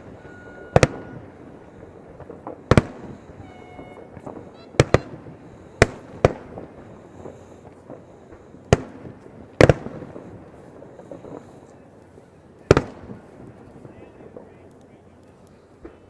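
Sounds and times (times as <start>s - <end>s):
fireworks bangs: 0.0s - 16.0s
fireworks pops and crackles: 0.0s - 16.0s.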